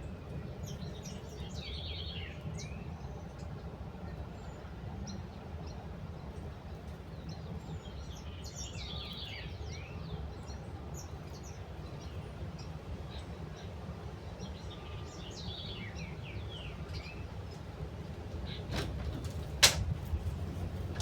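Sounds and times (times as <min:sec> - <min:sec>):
low background rumble: 0:00.0 - 0:21.0
small birds chirping: 0:00.1 - 0:21.0.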